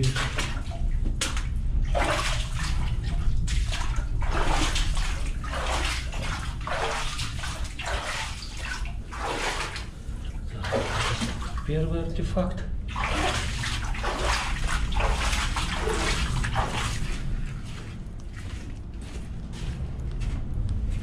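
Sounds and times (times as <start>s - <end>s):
low rumble: 0.0s - 7.8s, 8.5s - 21.0s.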